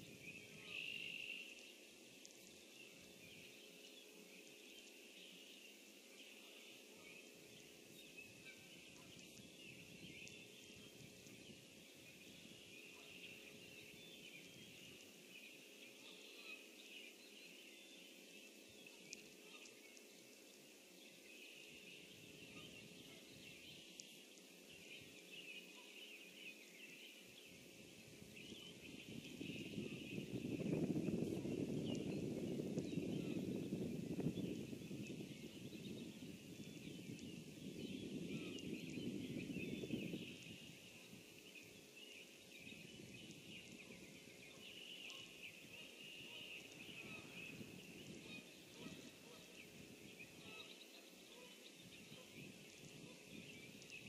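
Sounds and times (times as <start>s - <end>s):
light hiss: 0.0s - 37.7s, 38.3s - 54.0s
distant high chirping chorus: 0.1s - 54.0s.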